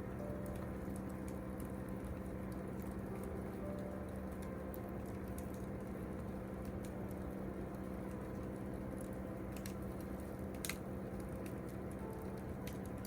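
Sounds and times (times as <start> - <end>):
campfire wood crackling: 0.0 - 13.0
steady low hum: 0.0 - 13.0.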